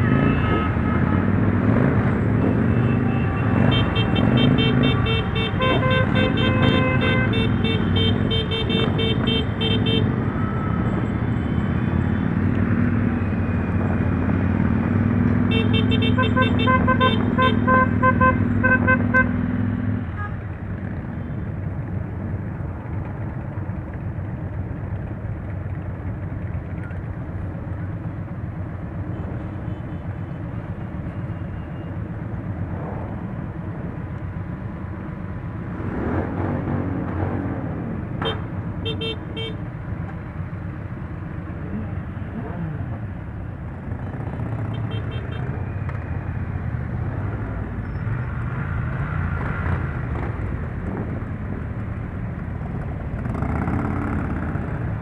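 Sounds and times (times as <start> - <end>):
motorcycles revving: 0.0 - 28.3, 32.3 - 38.8, 39.7 - 55.0
motorcycle engines: 0.0 - 55.0.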